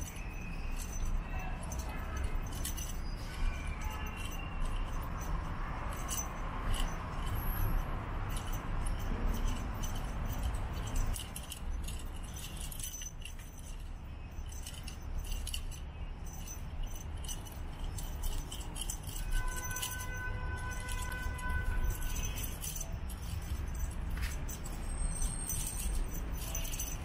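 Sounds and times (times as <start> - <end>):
cat toy jingling: 0.0 - 27.0.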